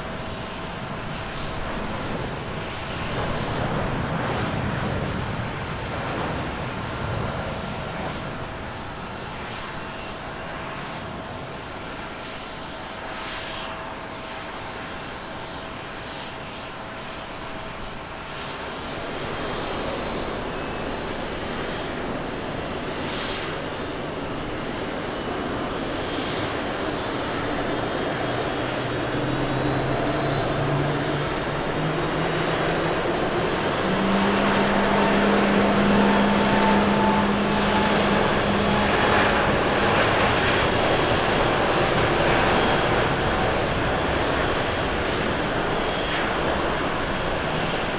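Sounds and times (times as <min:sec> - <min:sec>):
distant jet climbing away: 0:00.0 - 0:13.9, 0:14.5 - 0:47.9
jet engines at takeoff thrust: 0:00.0 - 0:47.9.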